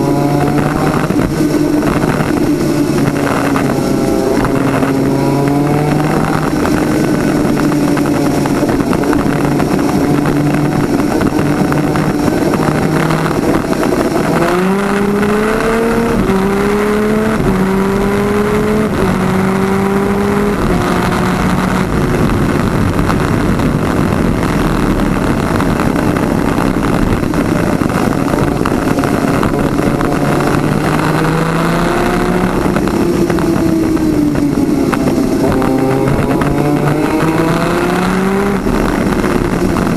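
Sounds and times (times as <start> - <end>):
kart engine running hard: 0.0 - 39.9
wind rushing: 0.0 - 39.9.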